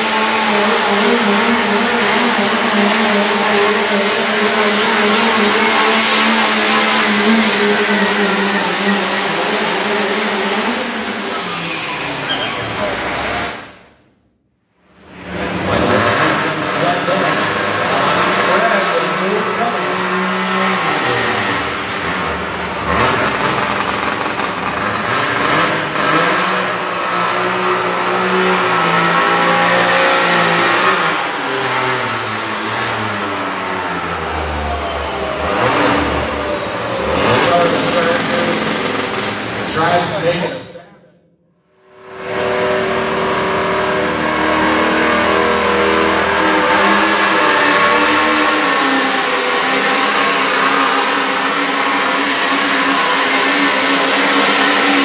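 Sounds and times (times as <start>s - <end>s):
diesel truck engine revving hard: 0.0s - 14.0s, 15.0s - 40.4s, 41.9s - 55.0s.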